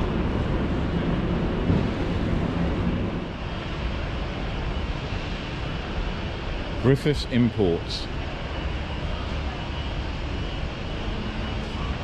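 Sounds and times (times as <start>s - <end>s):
hall rumble and hiss: 0.0s - 12.0s.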